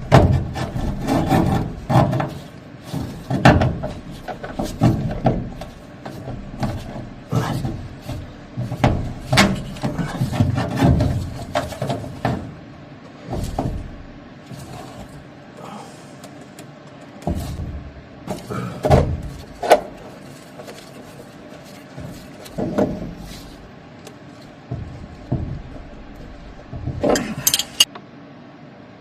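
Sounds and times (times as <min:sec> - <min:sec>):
hand tools knocking and scraping: 0:00.0 - 0:15.3, 0:16.2 - 0:27.9.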